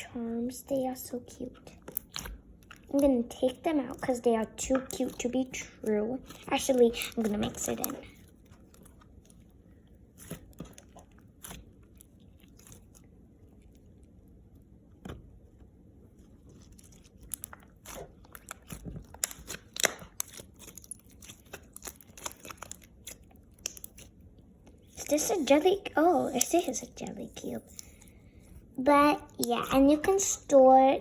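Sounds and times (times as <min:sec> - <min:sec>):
slime crackling and squishing: 0:00.0 - 0:31.0.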